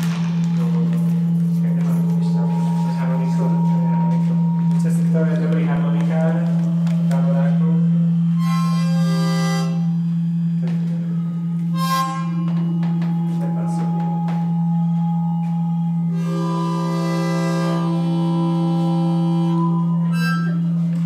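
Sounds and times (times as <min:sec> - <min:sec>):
bright reedy feedback chords: 0:00.0 - 0:21.0
steady low feedback hum: 0:00.0 - 0:21.0.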